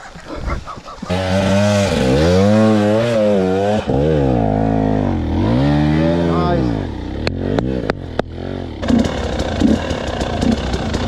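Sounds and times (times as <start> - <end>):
dirt bike engine revving: 1.1 - 11.0.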